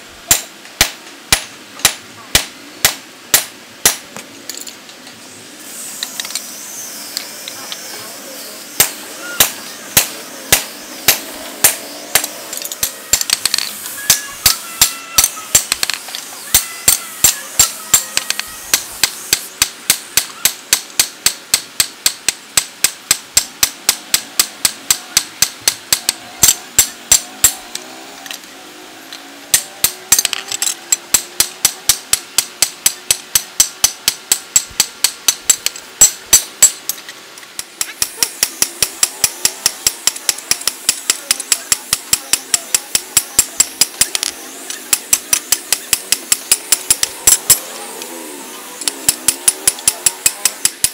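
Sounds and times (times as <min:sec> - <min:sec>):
hammer striking metal on anvil: 0:00.3 - 0:04.0, 0:08.8 - 0:27.7, 0:29.5 - 0:37.0, 0:37.6 - 0:47.7, 0:48.8 - 0:50.9.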